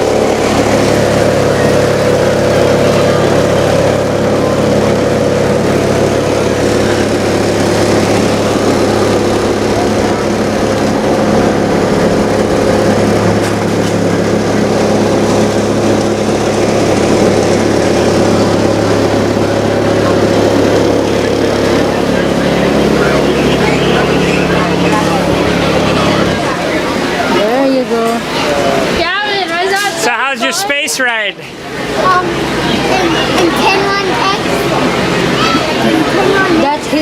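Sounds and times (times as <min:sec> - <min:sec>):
mechanical drone: 0:00.0 - 0:37.0.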